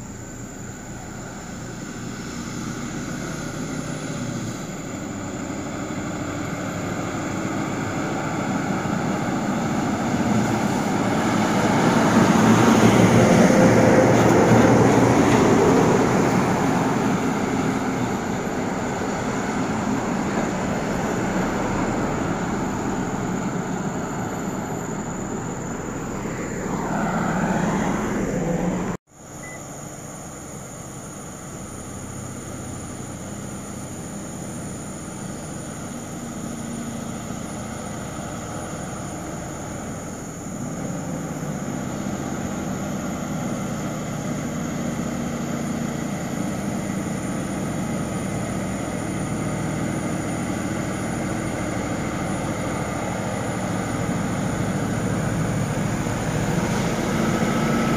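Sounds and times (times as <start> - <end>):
heavy truck diesel engine: 0.0 - 29.0, 30.0 - 57.9
road traffic noise: 0.0 - 57.9
vehicle sweeping past: 1.1 - 29.0, 32.2 - 57.9.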